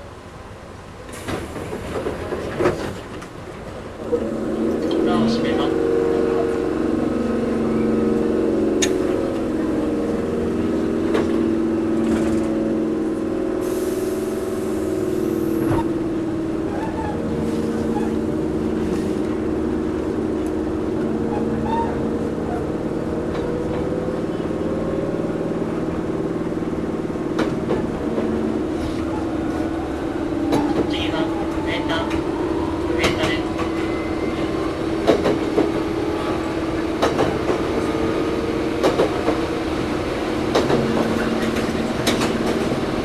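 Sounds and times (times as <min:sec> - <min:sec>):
train wheels and motors rumbling: 0:00.0 - 0:43.0.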